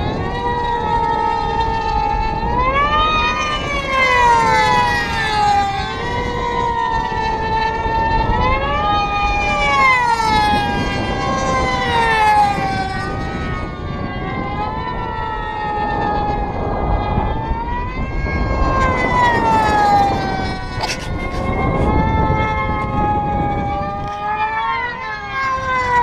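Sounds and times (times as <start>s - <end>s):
model airplane engines screaming: 0.0s - 26.0s.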